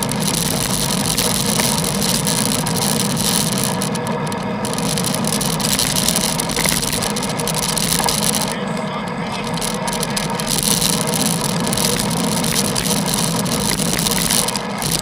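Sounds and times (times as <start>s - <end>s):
tyres hissing on wet road: 0.0s - 15.0s
vehicle engine running close by: 0.0s - 15.0s.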